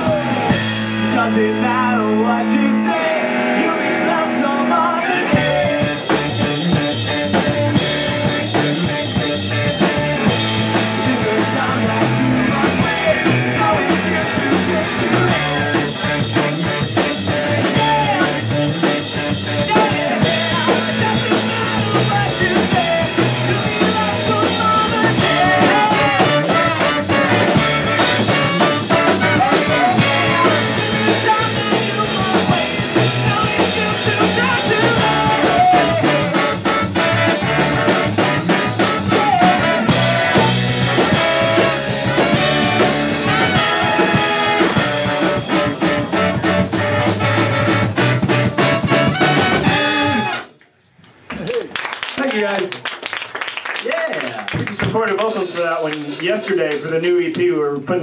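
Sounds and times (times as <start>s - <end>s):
live band with drums and guitars: 0.0s - 58.0s.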